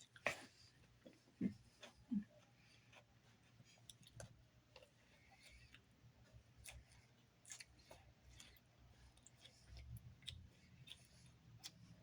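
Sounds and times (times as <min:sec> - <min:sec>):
person chewing salad: 0:01.8 - 0:12.0.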